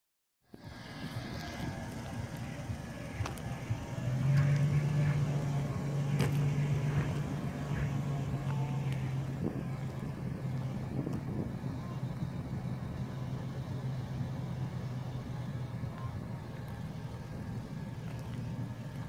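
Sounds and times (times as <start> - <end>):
car engine idling: 0.5 - 19.0.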